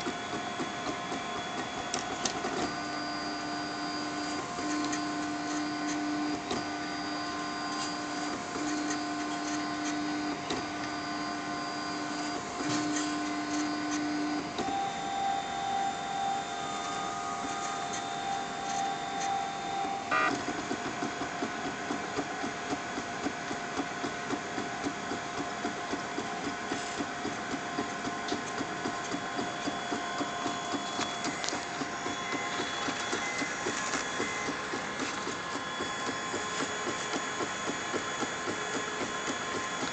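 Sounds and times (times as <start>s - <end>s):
stepper motors whining: 0.0s - 20.8s, 28.4s - 39.9s.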